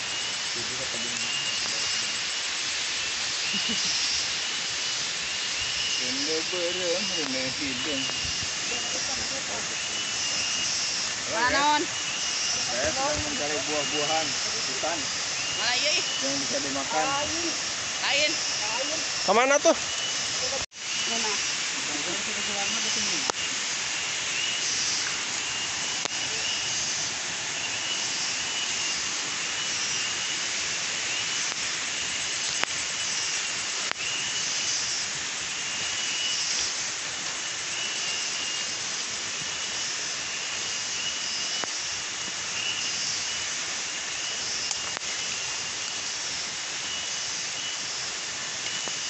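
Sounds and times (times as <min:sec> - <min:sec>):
insects droning: 0:00.0 - 0:49.0
pulsing insect call: 0:00.0 - 0:49.0.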